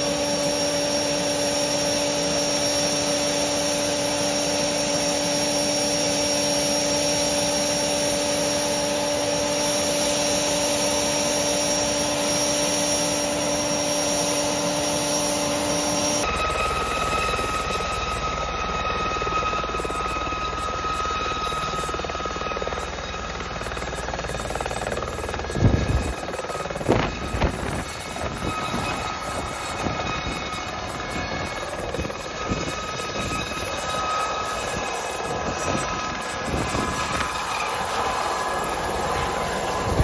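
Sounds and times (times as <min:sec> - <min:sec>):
helicopter rotor noise: 0:00.0 - 0:40.0
helicopter turbine whine: 0:00.0 - 0:40.0.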